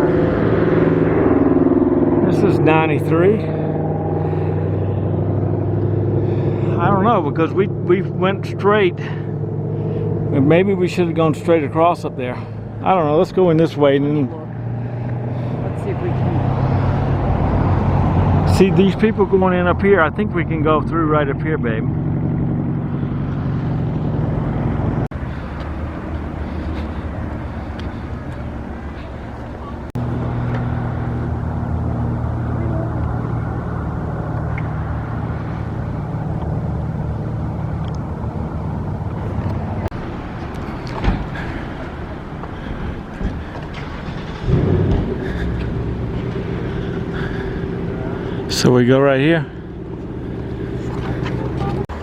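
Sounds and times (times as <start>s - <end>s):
louder vehicle passing: 0.0s - 52.0s
road traffic rumble: 0.0s - 52.0s.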